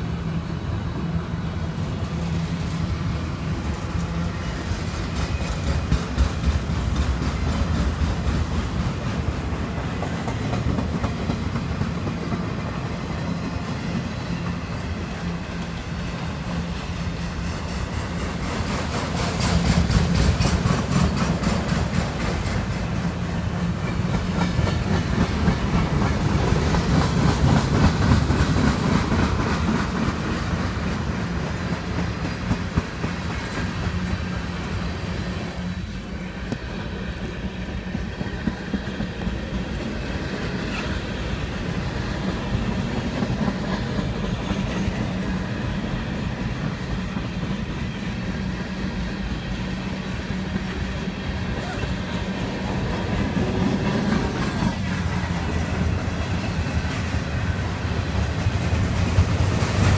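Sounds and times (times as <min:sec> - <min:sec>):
freight train rolling past: 0:00.0 - 0:59.9
wheels clicking over rail joints: 0:01.9 - 0:59.9.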